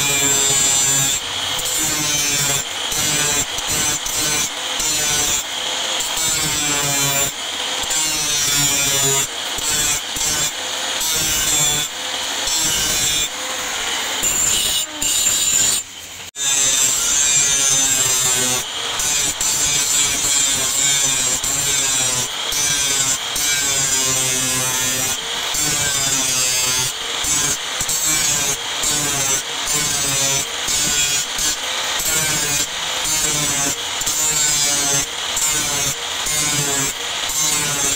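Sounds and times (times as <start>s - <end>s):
angle grinder grinding steel: 0.0s - 37.9s.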